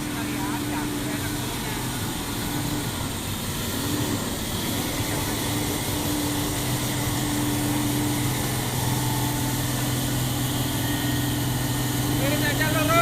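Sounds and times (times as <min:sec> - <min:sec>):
dump truck engine running: 0:00.0 - 0:13.0.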